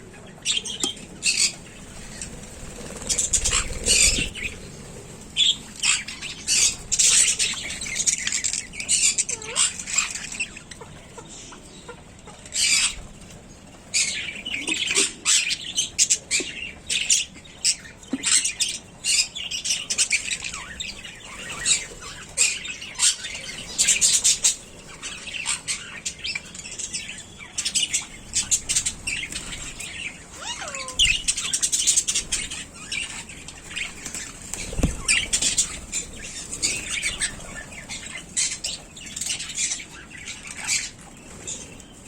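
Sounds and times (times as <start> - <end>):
birds chirping and squawking: 0.0 - 42.0.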